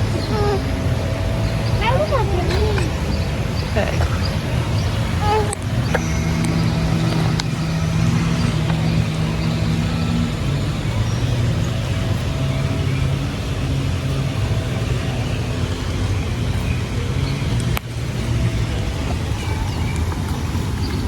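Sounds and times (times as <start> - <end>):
car engine running: 0.0 - 21.0
road noise: 0.0 - 21.0.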